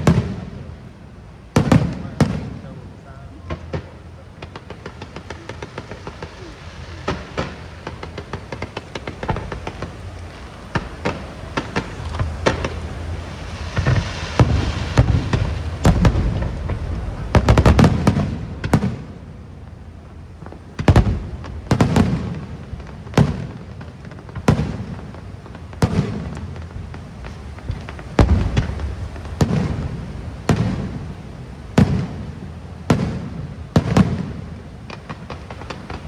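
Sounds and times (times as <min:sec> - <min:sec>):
fireworks bangs: 0:00.0 - 0:36.0
fireworks crackling: 0:00.0 - 0:36.0.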